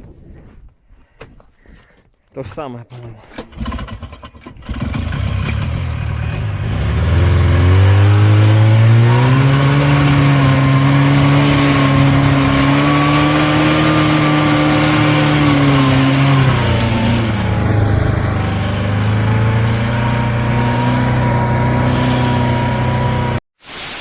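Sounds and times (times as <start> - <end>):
snowmobile engine revving: 3.4 - 23.4.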